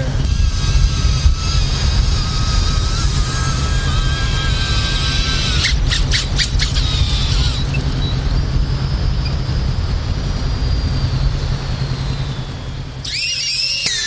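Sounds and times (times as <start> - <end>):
drone motor whine: 0.0 - 14.0.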